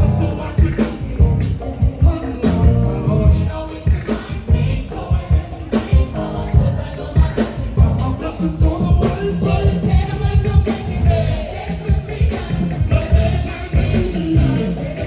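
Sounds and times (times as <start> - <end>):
group of voices singing gospel: 0.0 - 15.0
steady driving beat: 0.0 - 15.0.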